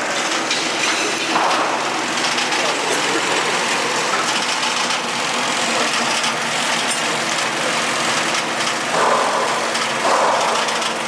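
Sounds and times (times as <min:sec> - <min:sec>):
machine hum: 0:00.0 - 0:11.0
rough welding bursts: 0:00.0 - 0:11.0.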